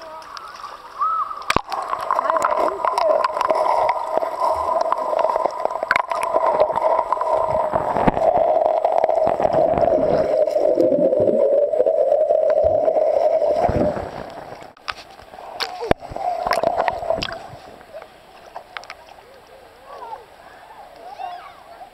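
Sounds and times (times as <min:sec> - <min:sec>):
muffled underwater river rushing: 0:00.0 - 0:21.9.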